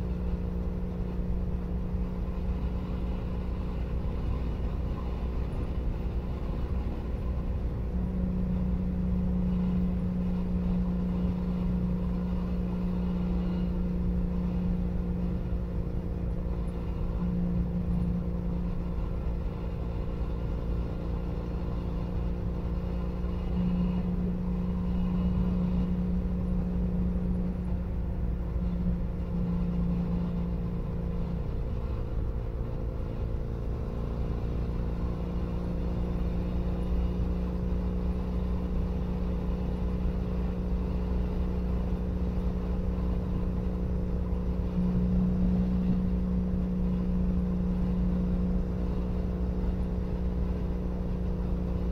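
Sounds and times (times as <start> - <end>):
motorcycle exhaust cruising: 0.0 - 51.9.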